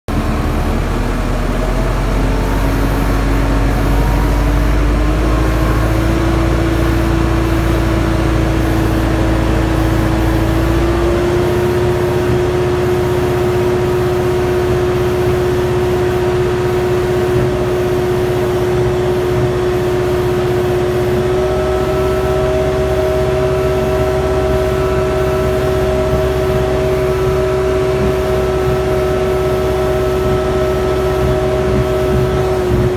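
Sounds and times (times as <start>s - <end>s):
engine rumbling: 0.1s - 32.9s
rising whine: 0.1s - 32.9s.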